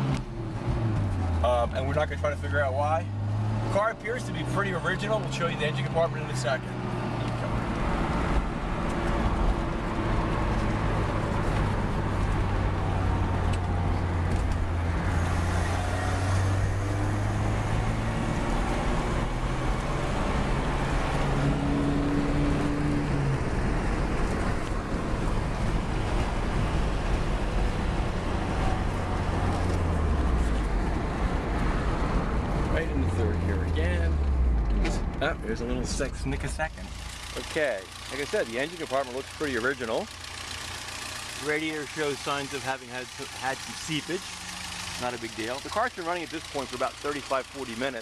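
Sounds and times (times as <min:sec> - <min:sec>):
car engine running: 0:00.0 - 0:48.0
road and wind noise: 0:00.0 - 0:48.0.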